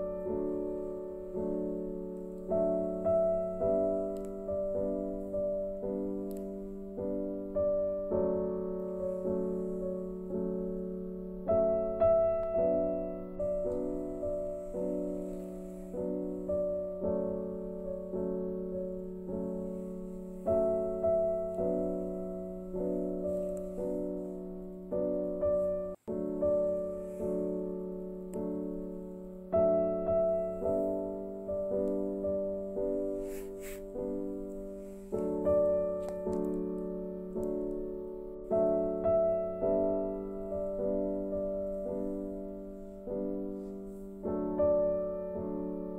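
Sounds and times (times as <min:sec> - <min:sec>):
slow gentle piano piece: 0:00.0 - 0:45.9.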